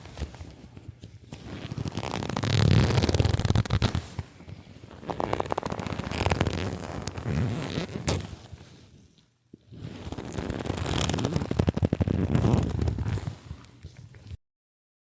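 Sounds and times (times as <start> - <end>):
leather creaking: 0.0 - 14.4.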